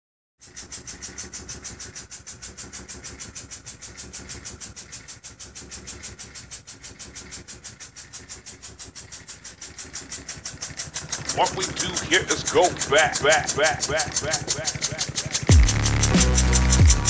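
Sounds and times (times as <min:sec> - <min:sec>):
compressed-air engine hissing puffs: 0:00.4 - 0:17.0.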